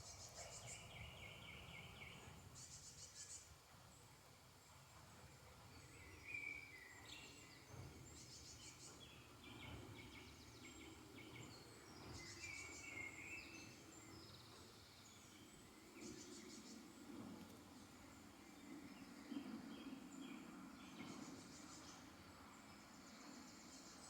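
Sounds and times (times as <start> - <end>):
low steady background noise: 0.0 - 24.0
songbirds trilling and chirping: 0.0 - 24.0.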